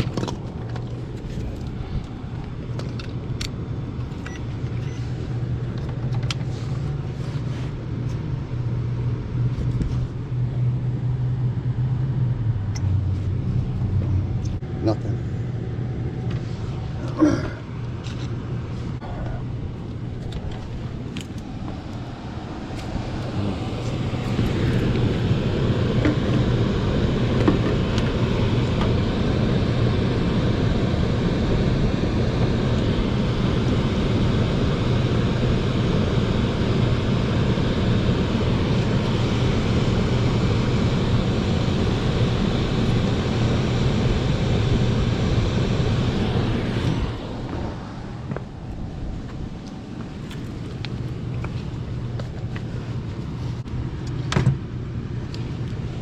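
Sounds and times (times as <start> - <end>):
hvac equipment humming: 0.0 - 56.0.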